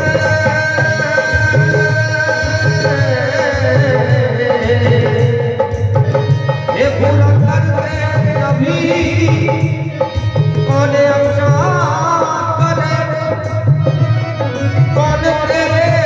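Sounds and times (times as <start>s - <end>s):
man singing into a microphone: 0.0s - 16.0s
steady drum rhythm: 0.0s - 16.0s.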